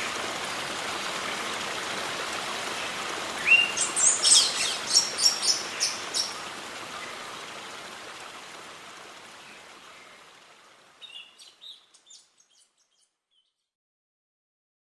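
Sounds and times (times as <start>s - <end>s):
steady background hiss: 0.0s - 12.6s.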